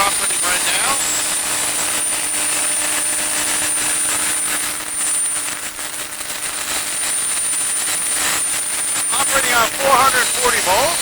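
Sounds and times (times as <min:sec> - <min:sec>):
air compressor running: 0:00.0 - 0:11.0.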